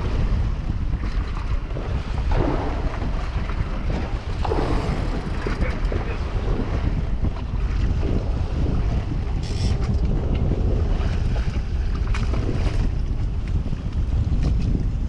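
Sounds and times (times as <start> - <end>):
choppy water: 0.0 - 15.0
wind buffeting microphone: 0.0 - 15.0.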